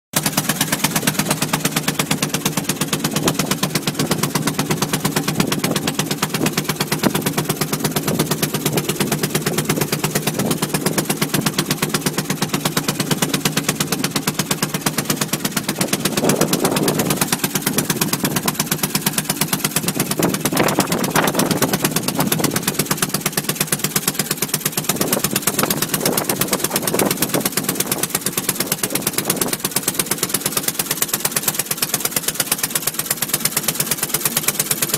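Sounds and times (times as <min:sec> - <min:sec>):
marine engine popping: 0:00.1 - 0:34.9.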